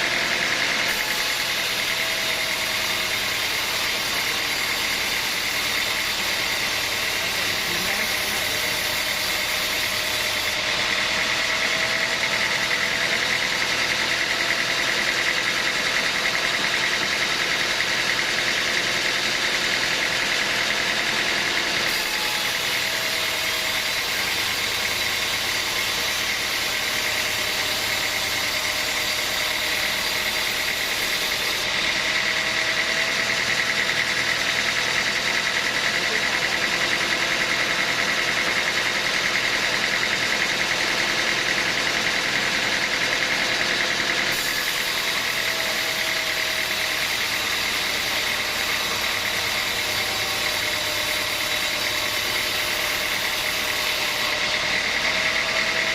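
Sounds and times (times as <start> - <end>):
high-pitched machine whine: 0.0 - 55.9
sawmill machinery drone: 0.0 - 55.9.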